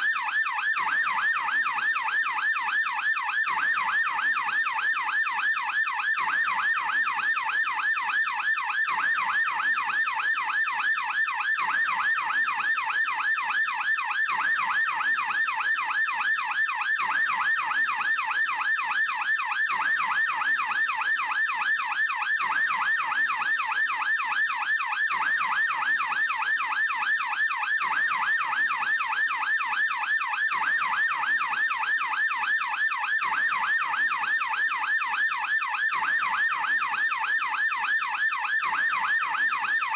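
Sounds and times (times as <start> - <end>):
police siren fast yelp: 0.0 - 39.9.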